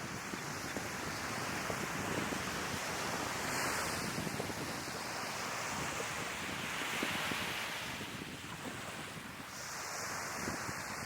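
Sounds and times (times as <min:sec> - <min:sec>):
sea waves breaking on shore: 0:00.0 - 0:11.0
wind rumbling on microphone: 0:00.0 - 0:11.0.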